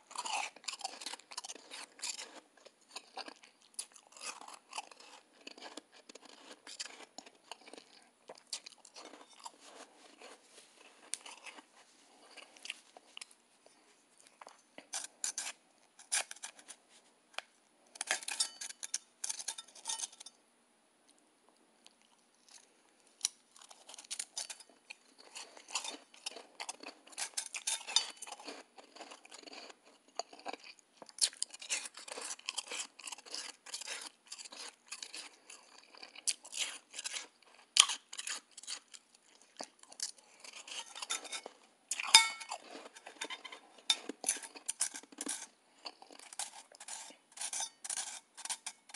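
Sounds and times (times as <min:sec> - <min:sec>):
crunching and chewing ice: 0:00.0 - 0:16.8, 0:17.4 - 0:20.3, 0:22.0 - 0:48.9.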